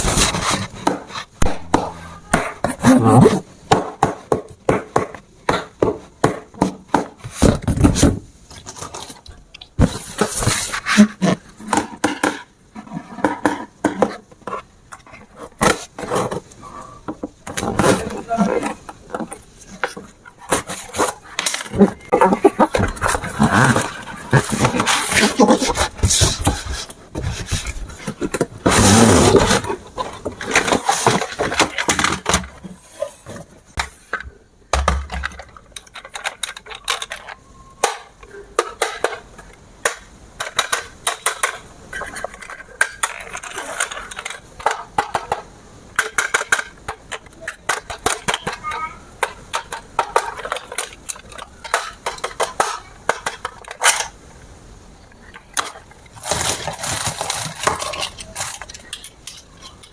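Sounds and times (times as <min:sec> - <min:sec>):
hard plastic clicking and scraping: 0:03.7 - 0:54.2, 0:55.2 - 0:59.9.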